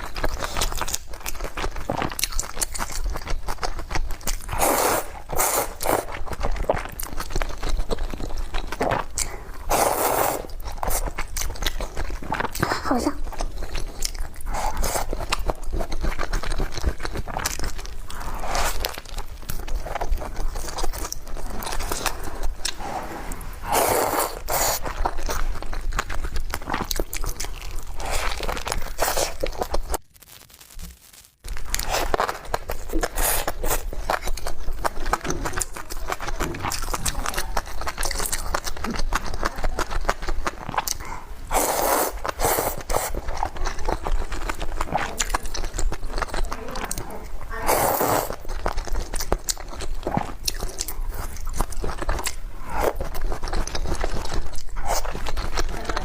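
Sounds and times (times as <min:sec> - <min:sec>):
person chewing and biting food: 0:00.0 - 0:30.0, 0:31.4 - 0:56.0.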